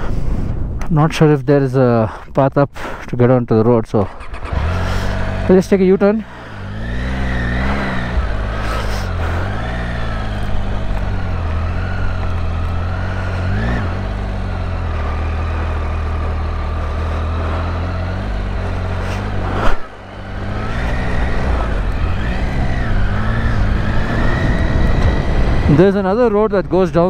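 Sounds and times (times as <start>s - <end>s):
motorcycle engine running: 4.1s - 26.9s.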